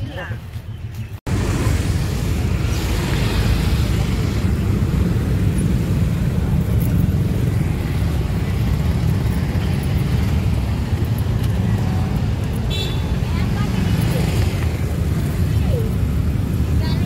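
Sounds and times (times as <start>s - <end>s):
car and motorbike engines rumbling: 0.0s - 17.0s.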